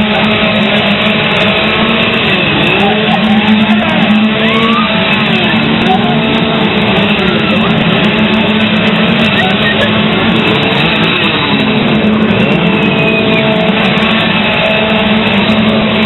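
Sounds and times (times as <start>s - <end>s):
chainsaw engines revving: 0.0s - 16.0s
loud rock music: 0.0s - 16.0s.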